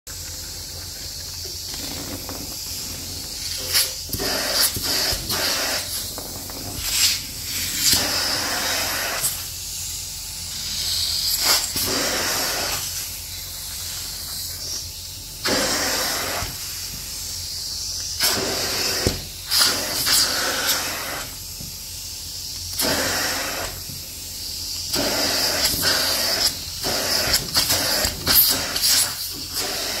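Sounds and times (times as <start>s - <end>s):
extraction tool suction hissing: 0.1s - 30.0s.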